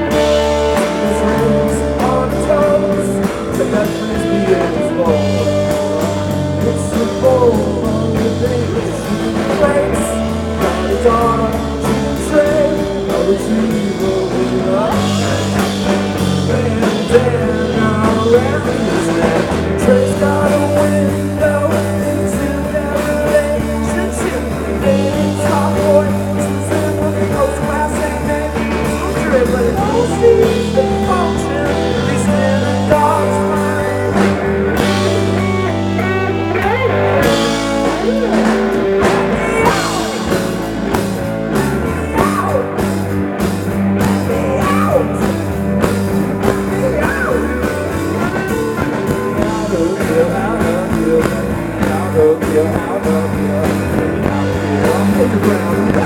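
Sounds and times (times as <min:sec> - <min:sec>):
bass guitar: 0:00.0 - 0:56.0
drum kit: 0:00.0 - 0:56.0
electric guitars: 0:00.0 - 0:56.0
person singing: 0:00.0 - 0:56.0.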